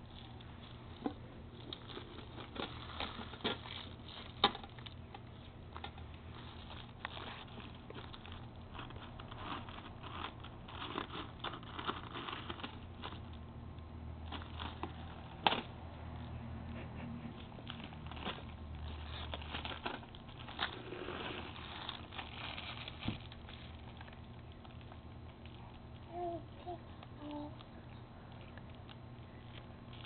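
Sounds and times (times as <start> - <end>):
plastic grass and cellophane rustling: 0.0 - 13.4, 14.1 - 15.7, 17.3 - 30.0.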